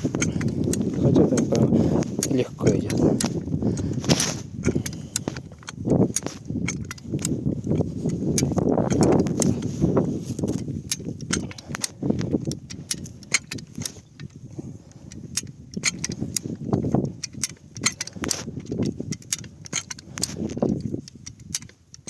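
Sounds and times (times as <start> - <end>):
metallic clicks of lifting jack: 0.0 - 22.0
strong wind buffeting microphone: 0.0 - 22.0.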